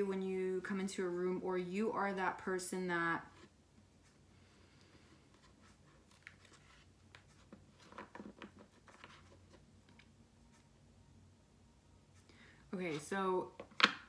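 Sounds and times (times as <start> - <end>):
faint low hum: 0.0 - 13.8.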